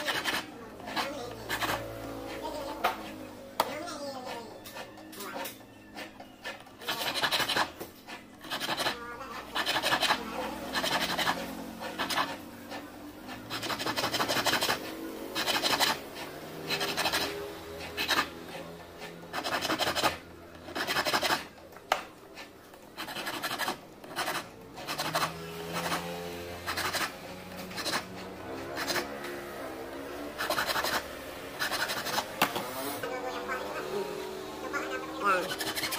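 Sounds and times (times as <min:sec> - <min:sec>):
hand file rasping on metal ring: 0:00.0 - 0:03.4, 0:04.1 - 0:29.3, 0:29.9 - 0:33.0, 0:35.4 - 0:35.9.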